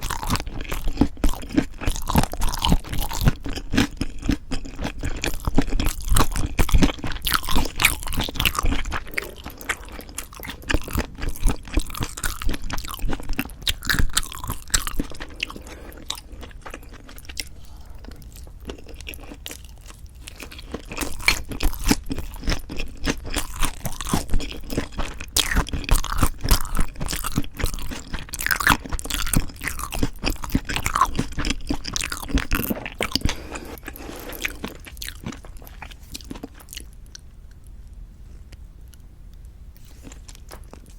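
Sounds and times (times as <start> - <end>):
close chewing and crunching: 0.0 - 40.9.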